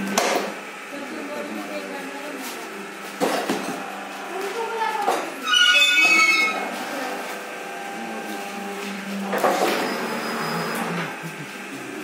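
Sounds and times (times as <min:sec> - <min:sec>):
machine motor hum: 0:00.0 - 0:12.0.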